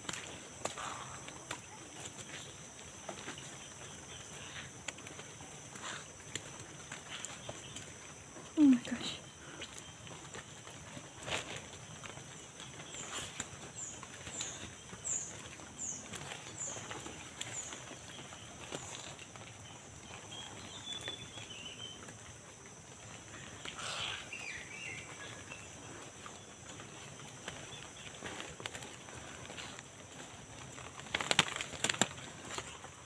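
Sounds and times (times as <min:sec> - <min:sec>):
footsteps on muddy rocky road: 0:00.0 - 0:33.0.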